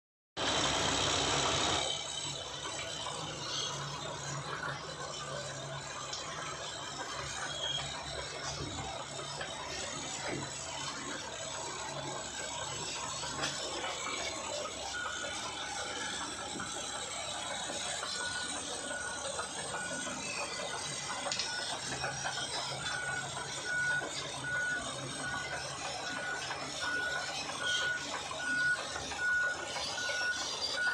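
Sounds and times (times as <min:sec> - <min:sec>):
diesel engine running: 0:00.4 - 0:30.9
steel tracks clanking and squealing: 0:01.7 - 0:30.9
reversing alarm beeping: 0:01.8 - 0:30.9.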